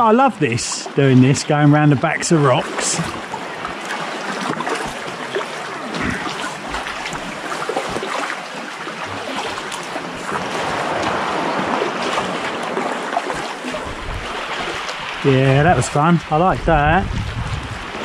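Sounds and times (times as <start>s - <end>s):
kayak paddles splashing: 0.0s - 18.0s.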